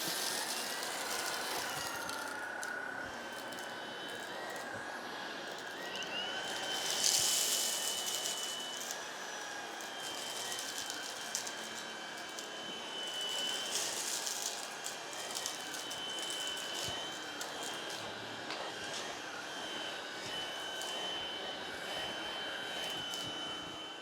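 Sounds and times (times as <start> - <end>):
stick vacuum running on carpet: 0.0 - 24.0.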